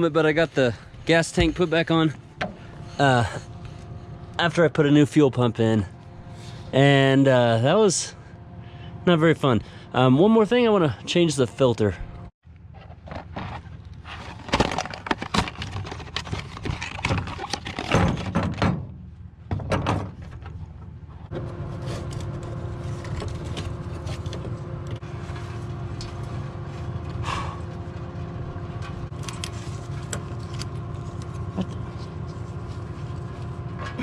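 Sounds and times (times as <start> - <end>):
steady hum with low drone: 0.0 - 18.2, 18.8 - 34.0.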